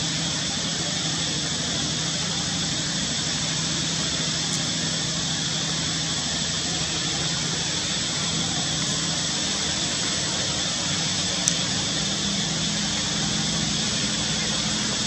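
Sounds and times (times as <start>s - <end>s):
even hiss: 0.0s - 15.0s
high-pitched drone: 0.0s - 15.0s
low hum: 0.0s - 15.0s.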